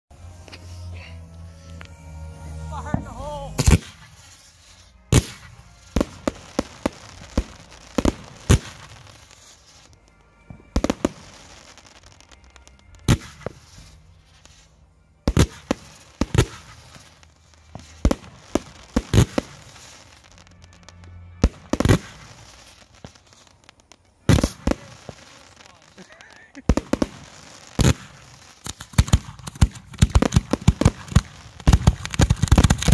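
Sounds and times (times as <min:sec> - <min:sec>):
fireworks bangs: 0:01.4 - 0:32.9.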